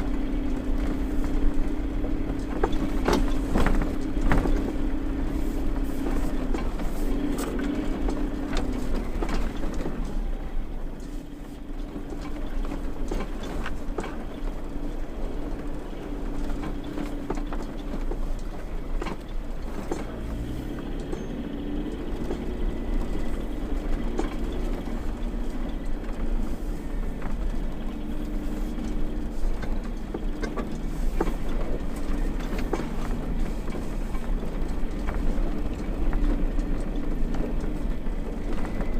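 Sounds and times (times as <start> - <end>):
car engine running while driving: 0.0 - 38.9
knocks and rattles over road: 0.0 - 38.9.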